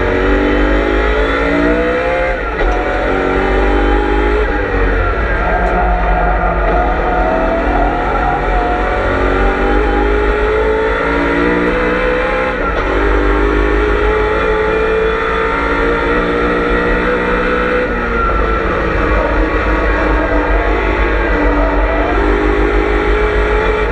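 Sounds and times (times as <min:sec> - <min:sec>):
race car engine at full throttle: 0:00.0 - 0:23.9.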